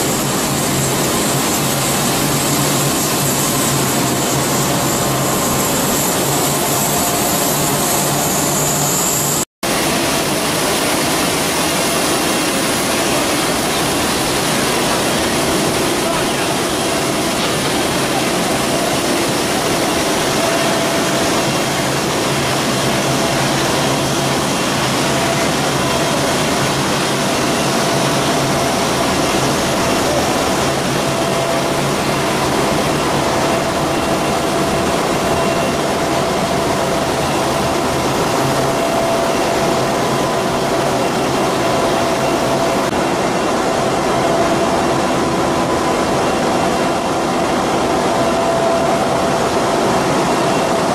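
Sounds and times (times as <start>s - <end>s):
industrial machinery hiss and hum: 0.0s - 50.9s.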